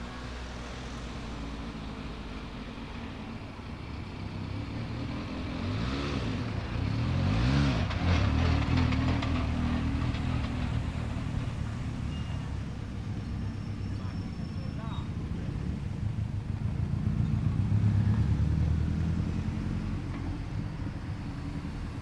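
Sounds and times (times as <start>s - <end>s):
car engine running and revving: 0.0s - 22.0s.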